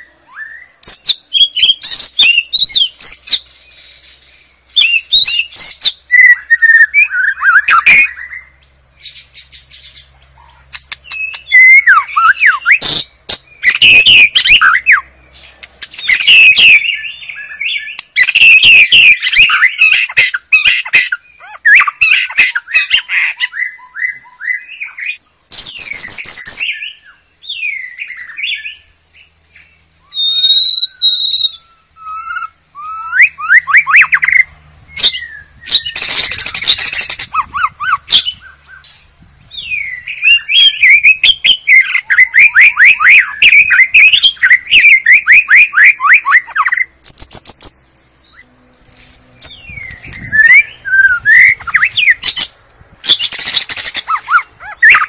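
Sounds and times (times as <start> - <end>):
bird singing whistles and trills: 0.0 - 48.8, 49.4 - 55.0
harsh rasping bird call: 0.0 - 55.0.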